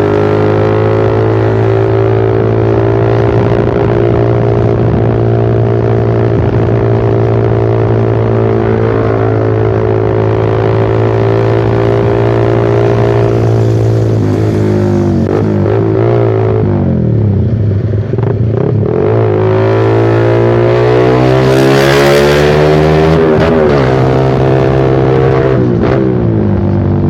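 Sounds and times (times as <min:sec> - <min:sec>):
motorcycle engine droning: 0:00.0 - 0:27.0.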